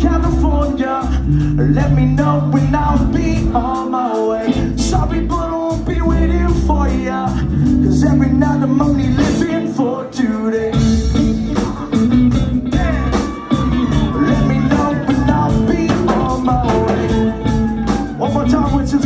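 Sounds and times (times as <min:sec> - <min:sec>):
live rock band playing: 0:00.0 - 0:19.0
sung vocals: 0:00.0 - 0:19.0.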